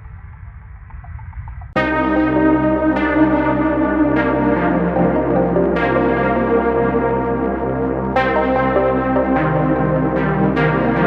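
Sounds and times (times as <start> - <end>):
steady low bass: 0.0 - 11.0
ambient synthesizer chords: 1.7 - 11.0.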